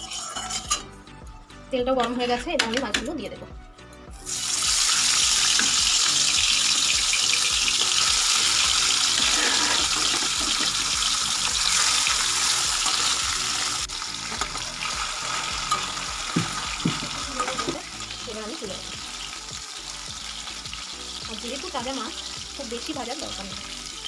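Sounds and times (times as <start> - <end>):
fish sizzling in hot oil: 0.0 - 0.9, 4.2 - 24.0.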